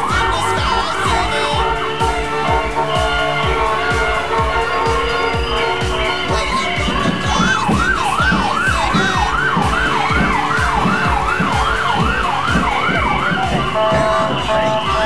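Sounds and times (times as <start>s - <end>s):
music with steady bass beat: 0.0s - 15.0s
police siren wailing: 0.0s - 15.0s.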